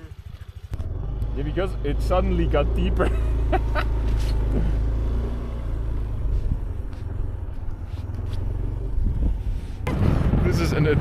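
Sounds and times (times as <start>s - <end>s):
motor scooter engine rumble: 0.0s - 11.0s.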